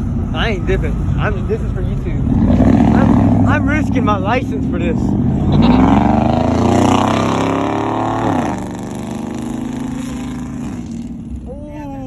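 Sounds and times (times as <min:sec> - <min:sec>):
truck engine at high revs: 0:00.0 - 0:12.0.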